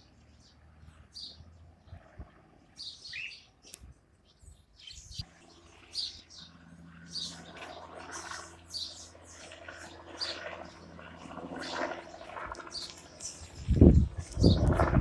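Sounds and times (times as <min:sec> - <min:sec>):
birds chirping: 0:00.0 - 0:15.0
distant helicopter hum: 0:00.0 - 0:15.0.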